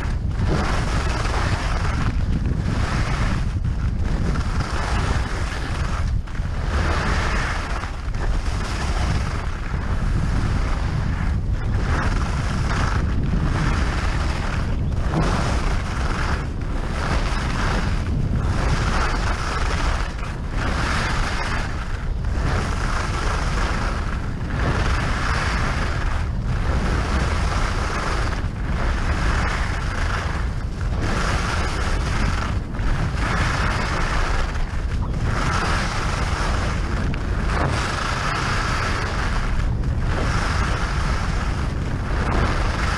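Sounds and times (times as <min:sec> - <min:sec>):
skis scraping over snow: 0:00.0 - 0:42.9
wind buffeting microphone: 0:00.0 - 0:42.9.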